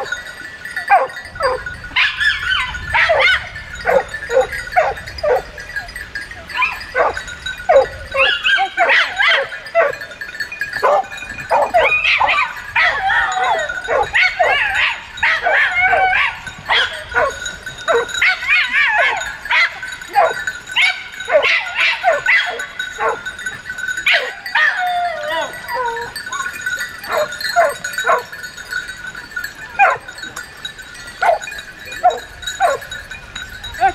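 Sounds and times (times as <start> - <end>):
dogs barking and whining: 0.0 - 33.9.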